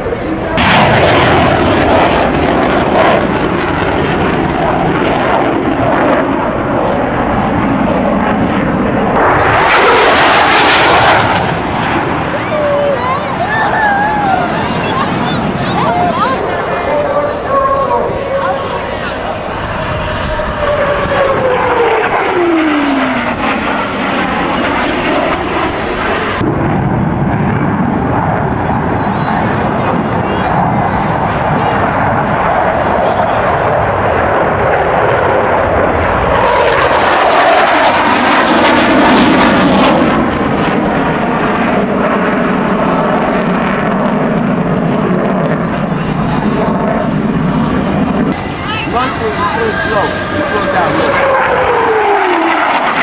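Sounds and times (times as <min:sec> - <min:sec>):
fighter jet flying past: 0:00.0 - 0:53.0.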